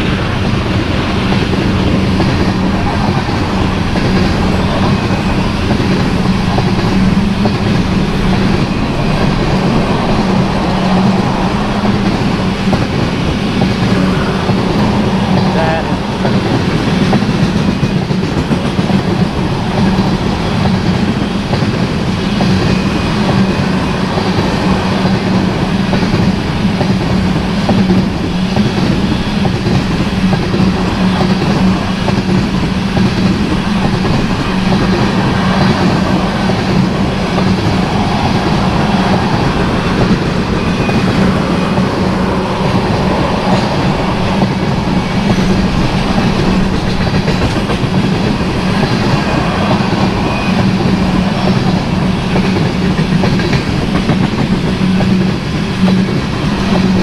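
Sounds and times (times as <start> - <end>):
freight train wheels clattering on rails: 0.0 - 57.0.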